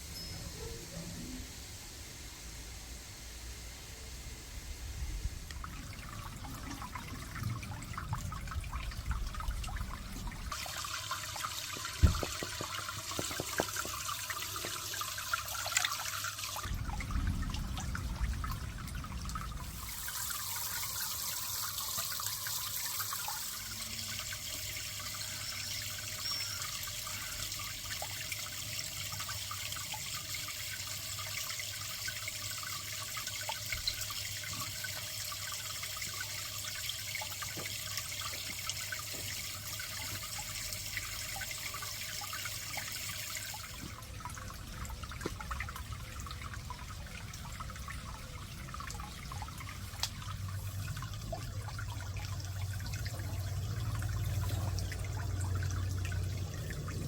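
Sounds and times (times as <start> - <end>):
water trickling into pond: 0.0 - 1.8, 2.4 - 57.0.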